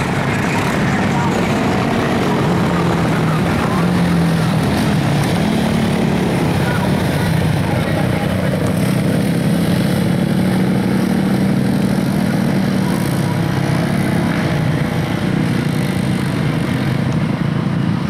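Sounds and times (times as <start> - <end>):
atv engines running: 0.0 - 18.0.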